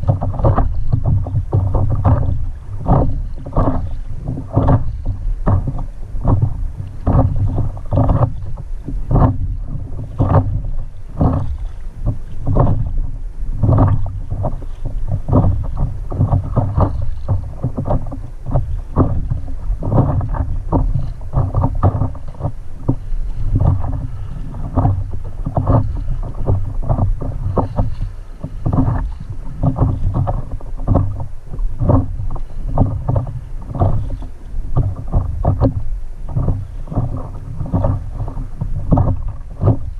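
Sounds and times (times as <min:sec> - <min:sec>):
water splashing against paddleboard: 0:00.0 - 0:39.9
wind rumble on microphone: 0:00.0 - 0:39.9.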